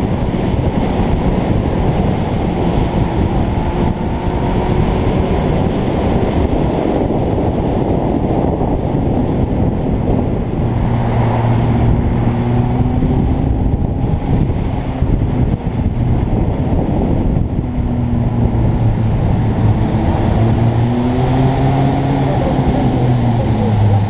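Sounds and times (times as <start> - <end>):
motorcycle engine running: 0.0 - 24.0
wind rush on microphone: 0.0 - 24.0.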